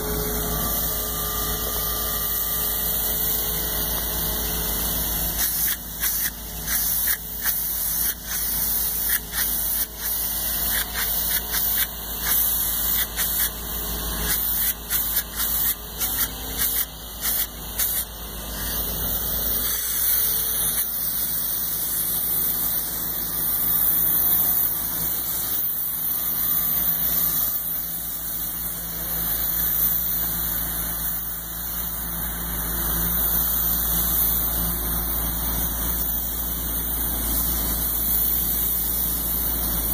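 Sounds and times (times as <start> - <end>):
low machine hum: 0.0 - 39.9
spray gun hissing: 0.0 - 39.9.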